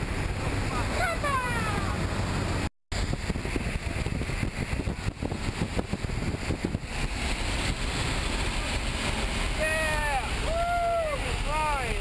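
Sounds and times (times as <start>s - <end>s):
plane engine drone: 0.0s - 12.0s
rushing air: 0.0s - 12.0s.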